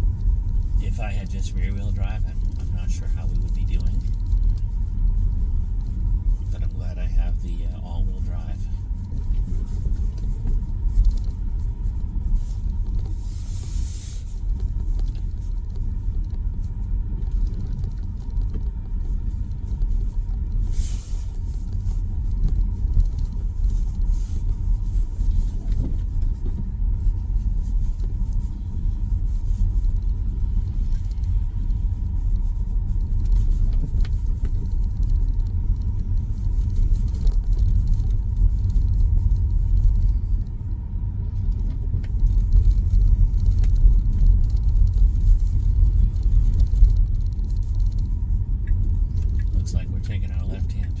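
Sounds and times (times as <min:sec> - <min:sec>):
tyre and road rumble in car: 0:00.0 - 0:51.0.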